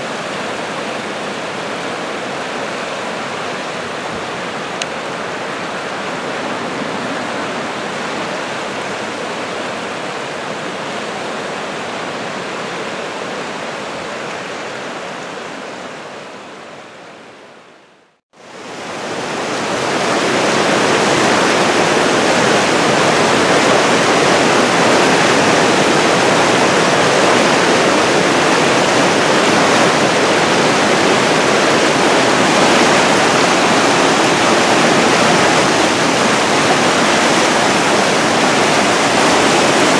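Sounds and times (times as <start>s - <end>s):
fast whitewater rushing: 0.0s - 17.7s, 18.4s - 39.9s.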